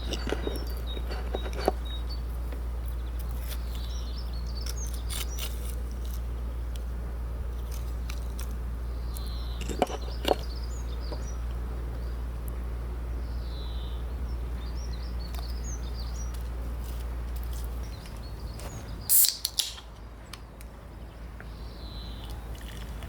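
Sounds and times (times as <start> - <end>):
birds chirping: 0.0 - 5.8, 8.8 - 23.0.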